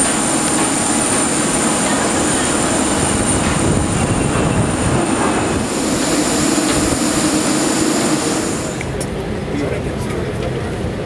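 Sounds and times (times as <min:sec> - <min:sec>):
high steady whine: 0:00.0 - 0:09.1
jet airliner rushing noise: 0:00.0 - 0:09.4.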